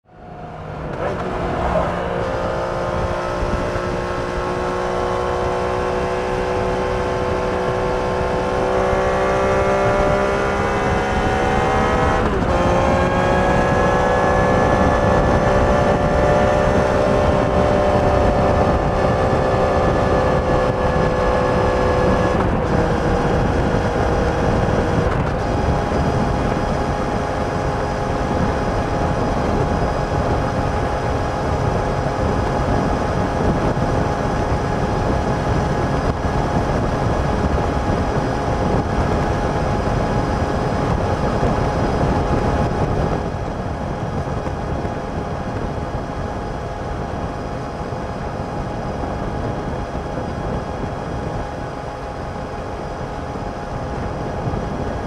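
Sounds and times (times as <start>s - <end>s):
motorcycle engine at road speed: 0.0s - 55.0s
wind and road noise: 0.0s - 55.0s.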